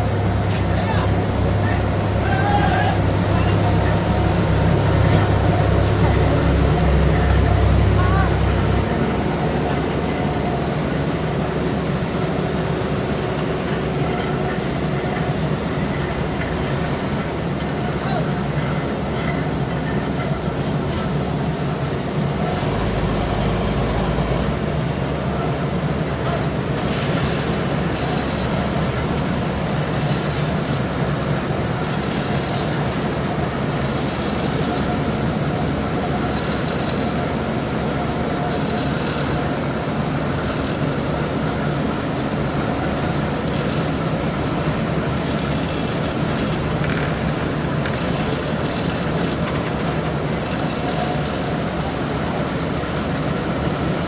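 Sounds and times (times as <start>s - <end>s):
diesel paving machinery running: 0.0s - 54.0s.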